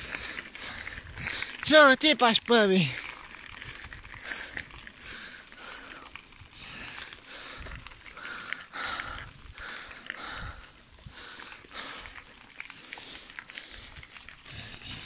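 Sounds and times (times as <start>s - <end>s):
cyclist breathing hard: 0.0s - 1.6s, 3.0s - 15.0s
tyres rolling on gravel: 0.0s - 15.0s.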